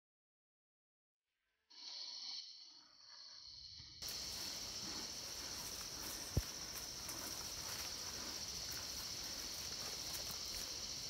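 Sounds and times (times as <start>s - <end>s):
insects chirping: 1.7s - 11.0s.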